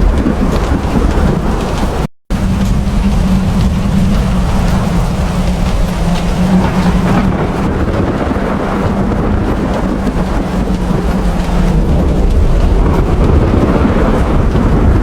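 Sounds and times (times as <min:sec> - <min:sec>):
deep rumble: 0:00.0 - 0:15.0
heavy rain: 0:00.0 - 0:15.0.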